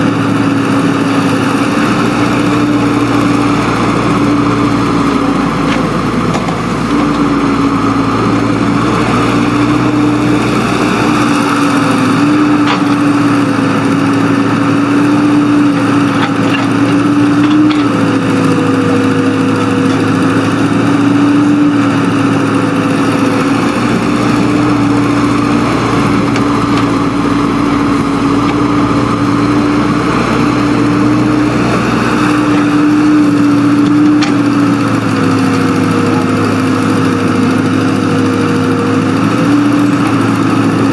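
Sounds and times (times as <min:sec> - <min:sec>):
earthmoving machinery engine running: 0:00.0 - 0:40.9.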